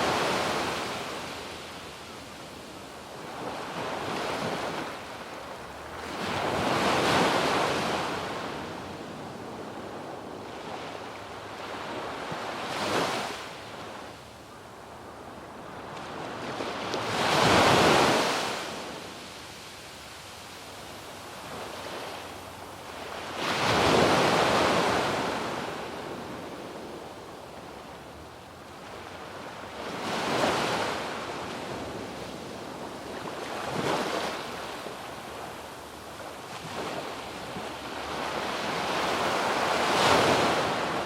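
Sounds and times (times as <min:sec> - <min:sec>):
waves breaking on beach: 0:00.0 - 0:13.7, 0:15.5 - 0:27.8, 0:28.8 - 0:41.0.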